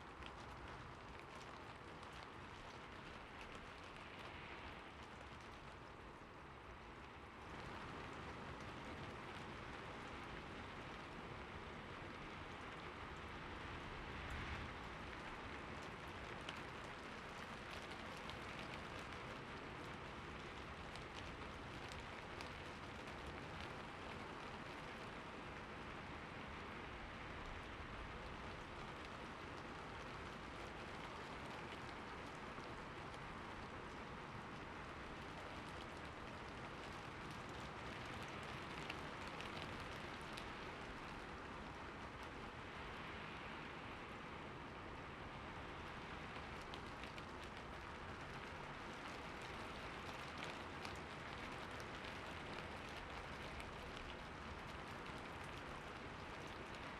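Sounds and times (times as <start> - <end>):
light rain falling: 0.0 - 56.9.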